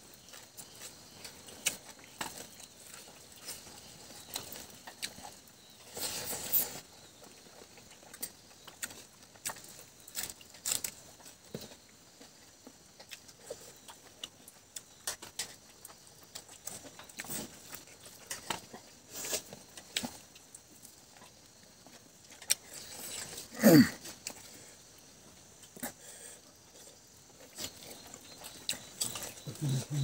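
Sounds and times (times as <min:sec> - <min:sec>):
wet chewing and lip-smacking: 0:00.1 - 0:30.0.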